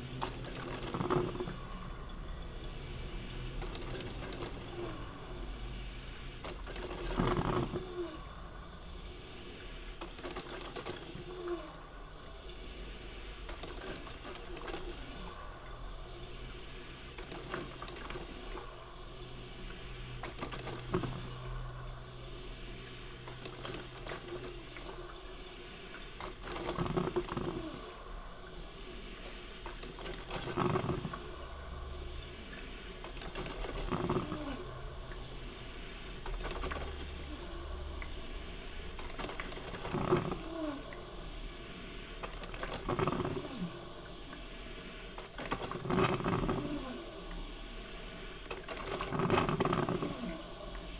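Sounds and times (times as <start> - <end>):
boiling water gurgling: 0.0 - 50.9
coffee maker steam hiss: 0.0 - 50.9.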